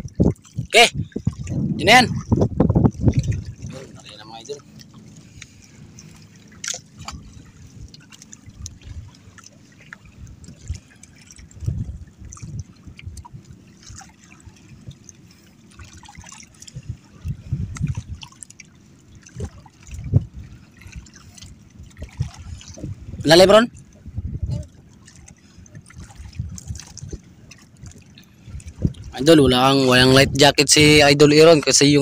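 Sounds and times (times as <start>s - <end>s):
water lapping against boat hull: 0.0s - 32.0s.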